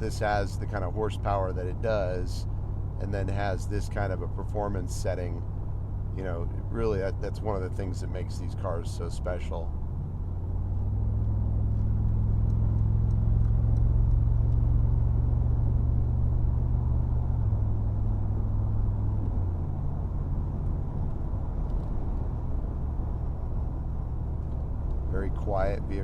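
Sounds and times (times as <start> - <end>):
engine and tyre drone in cabin: 0.0 - 26.0.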